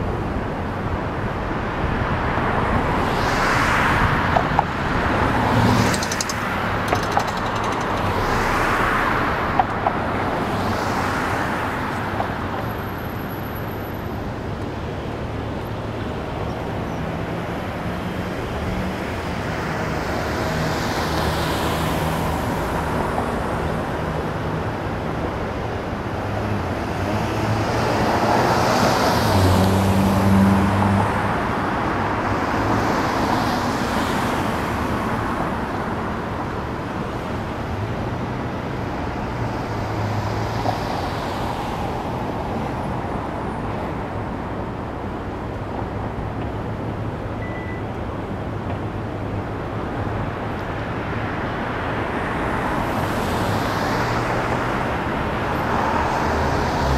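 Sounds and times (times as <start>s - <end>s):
vehicles passing: 0.0s - 56.9s.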